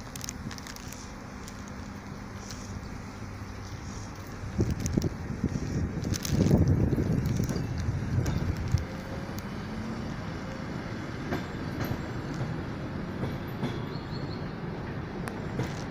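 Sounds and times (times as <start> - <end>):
distant train rumble: 0.0 - 15.9.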